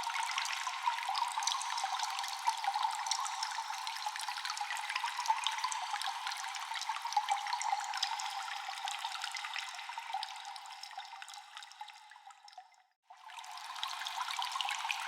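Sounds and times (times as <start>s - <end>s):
running water trickle: 0.0s - 15.0s.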